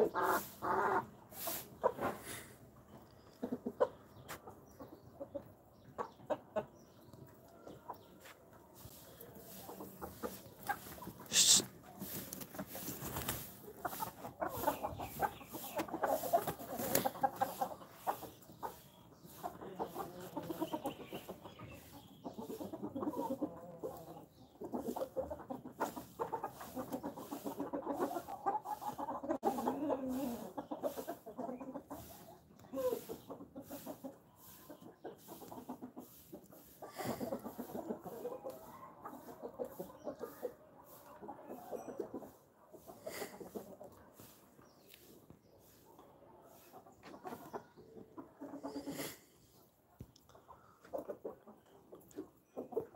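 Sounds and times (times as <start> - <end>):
chickens clucking: 0.0 - 52.9.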